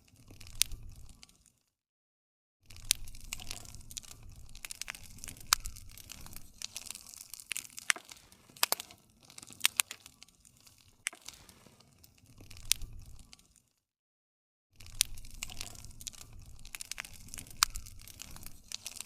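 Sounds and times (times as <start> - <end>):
campfire crackling: 0.0 - 1.6, 2.7 - 13.7, 14.8 - 19.0
fire popping: 0.0 - 1.6, 2.7 - 13.7, 14.8 - 19.0.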